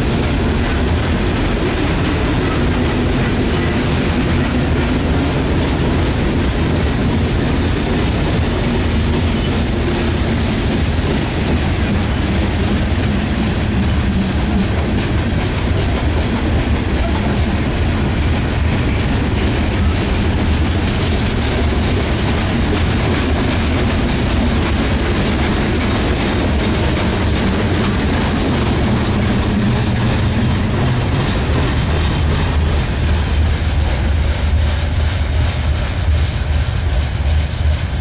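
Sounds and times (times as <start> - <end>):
low rumble of freight cars: 0.0 - 38.0
train wheels clicking over rail joints: 0.0 - 38.0.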